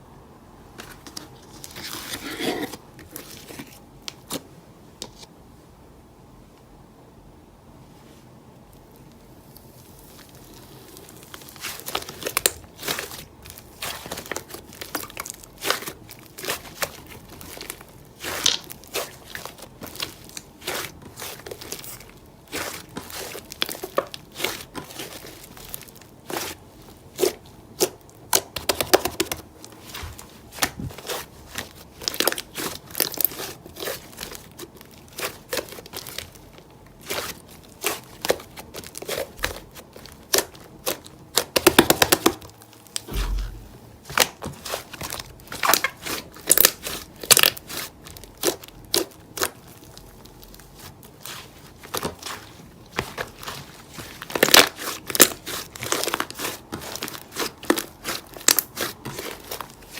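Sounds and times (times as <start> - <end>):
crinkly material crinkling: 0.8 - 4.5, 8.7 - 59.9.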